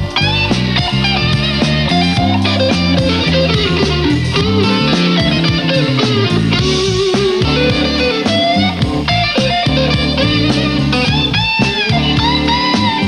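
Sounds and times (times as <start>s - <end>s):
bass line: 0.0s - 13.0s
electric guitar lead lines: 0.0s - 13.0s.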